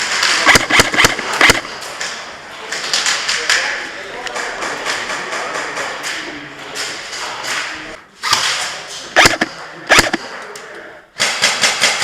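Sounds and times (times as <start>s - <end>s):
steady noisy background: 0.0s - 12.0s.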